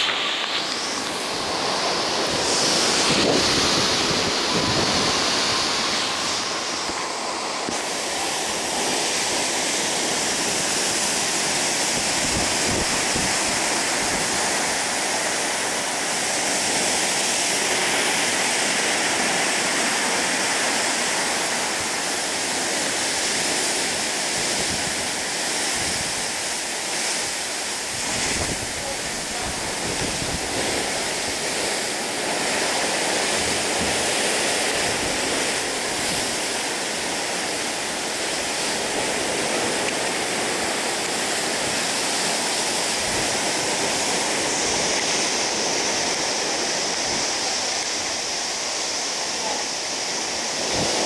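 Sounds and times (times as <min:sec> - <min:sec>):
wind buffeting microphone: 0:00.0 - 0:48.5
water rushing along ship hull: 0:00.0 - 0:51.0.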